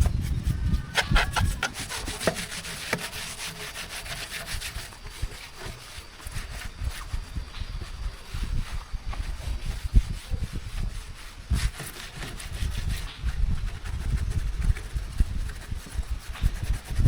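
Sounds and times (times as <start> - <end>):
rubbing strokes: 0.0 - 17.0.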